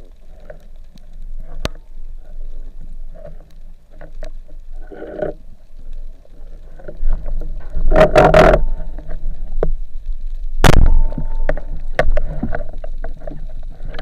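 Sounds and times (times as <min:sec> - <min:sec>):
sharp clicks underwater: 0:00.0 - 0:14.0
underwater low rumble: 0:00.0 - 0:14.0.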